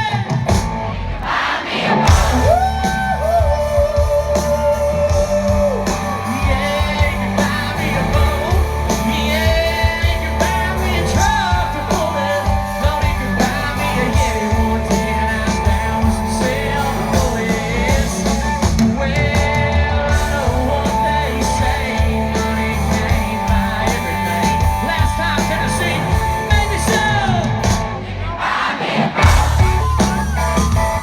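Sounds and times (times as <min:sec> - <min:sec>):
live country-rock band: 0:00.0 - 0:31.0.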